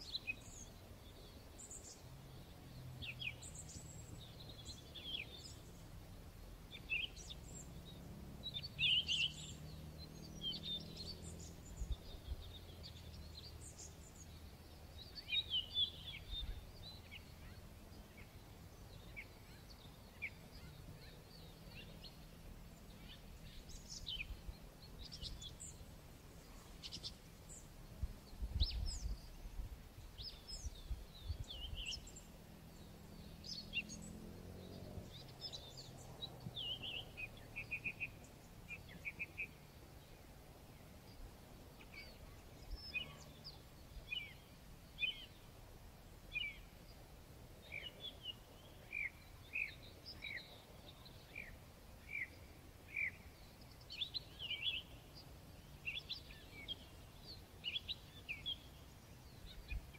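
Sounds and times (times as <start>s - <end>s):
small birds chirping and singing: 0.0s - 59.9s.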